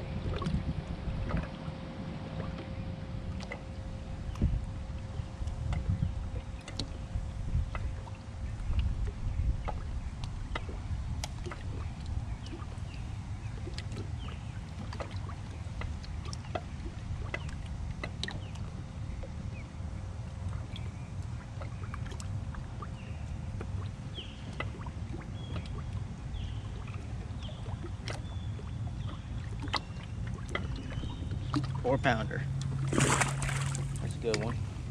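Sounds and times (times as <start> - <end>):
wind and water rumble: 0.0 - 34.9.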